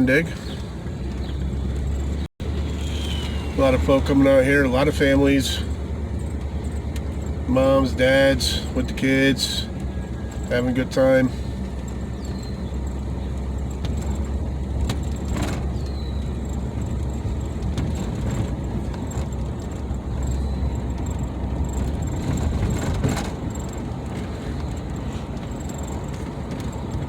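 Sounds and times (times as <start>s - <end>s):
car engine rumble: 0.0s - 27.0s
road noise: 0.0s - 27.0s.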